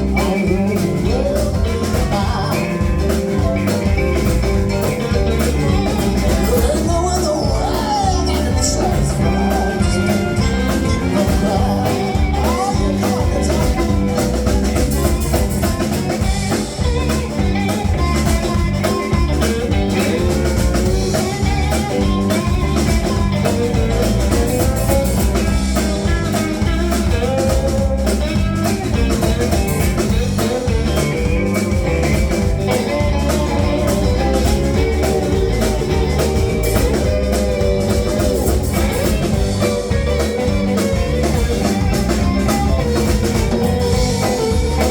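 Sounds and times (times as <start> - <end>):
blues band playing live: 0.0 - 44.9
electric guitar: 0.0 - 44.9.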